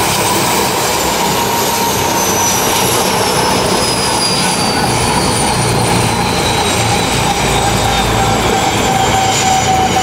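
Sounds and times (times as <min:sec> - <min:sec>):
helicopter rotors turning: 0:00.0 - 0:10.0
turbine whine: 0:00.0 - 0:10.0.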